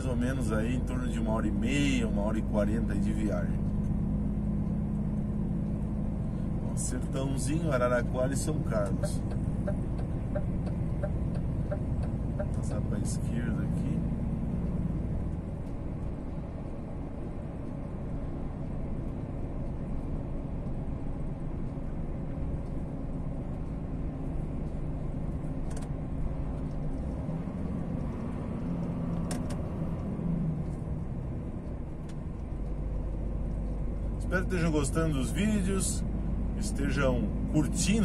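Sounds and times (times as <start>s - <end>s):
truck engine drone in cab: 0.0s - 38.0s
tyre and road noise: 0.0s - 38.0s.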